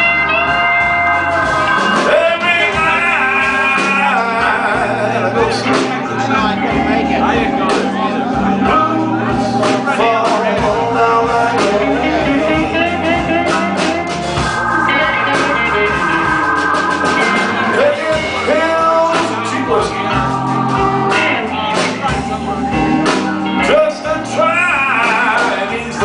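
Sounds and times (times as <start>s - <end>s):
gliding guitar notes: 0.0s - 26.0s
live blues band playing: 0.0s - 26.0s.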